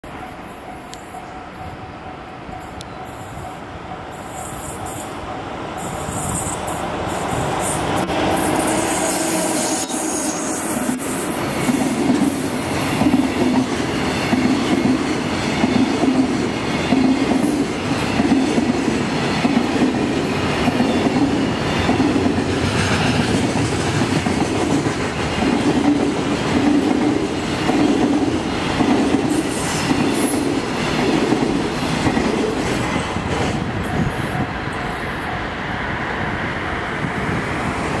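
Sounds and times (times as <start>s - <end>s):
electric locomotive passing: 0.0s - 38.0s.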